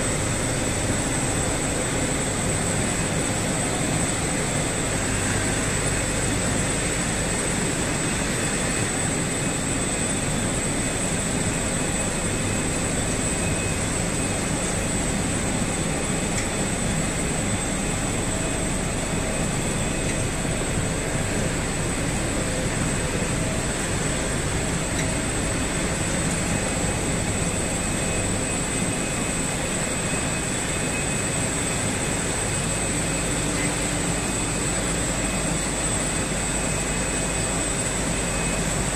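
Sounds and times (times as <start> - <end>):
high-pitched whine: 0.0 - 38.9
industrial machinery running: 0.0 - 38.9.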